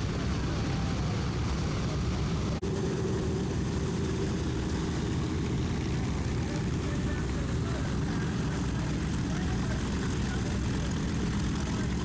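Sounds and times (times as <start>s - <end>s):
radial piston engines droning: 0.0s - 12.0s.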